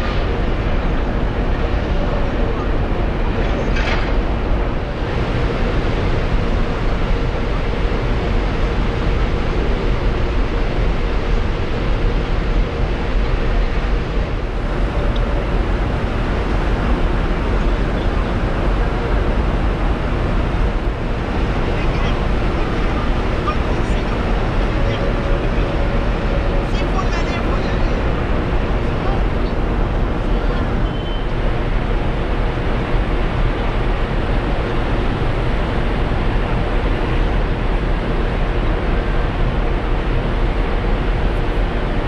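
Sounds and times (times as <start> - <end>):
churning propeller wash: 0.0 - 42.0
ship engines humming: 0.0 - 42.0.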